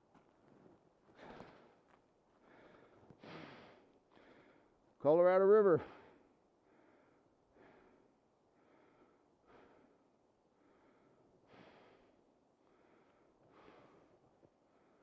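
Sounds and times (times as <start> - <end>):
faint breathing: 0.5 - 4.8, 5.8 - 15.0.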